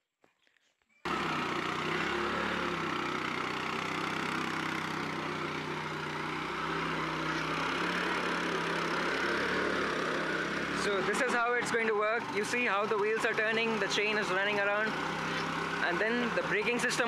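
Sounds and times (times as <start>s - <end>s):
small petrol engine running: 1.0s - 17.0s.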